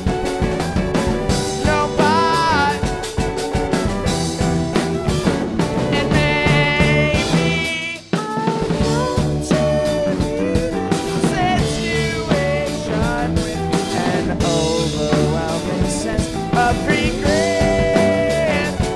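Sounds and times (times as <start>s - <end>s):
live rock band playing: 0.0s - 18.9s.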